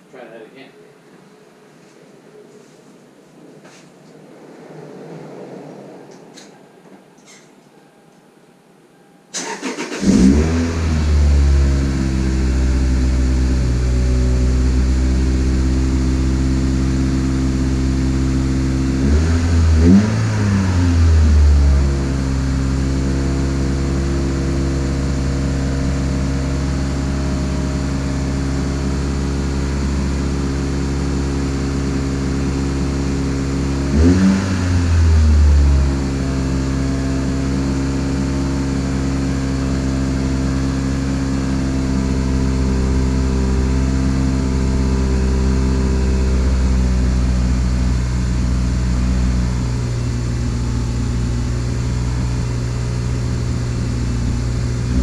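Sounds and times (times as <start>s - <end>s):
car engine idling: 9.3s - 55.0s.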